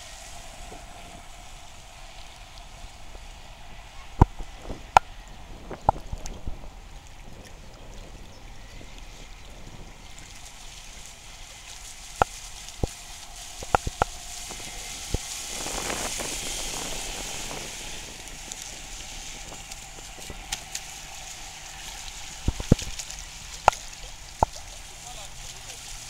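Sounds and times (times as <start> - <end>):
model speedboat hiss and splash: 0.0 - 4.9, 9.8 - 26.0.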